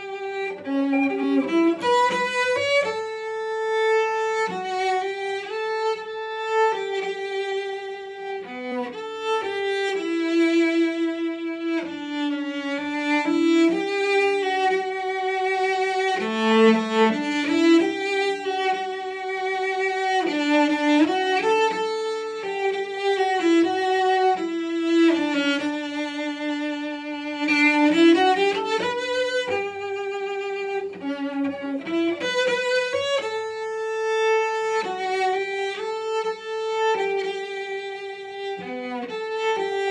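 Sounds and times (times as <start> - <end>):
bowed cello melody: 0.0 - 39.9.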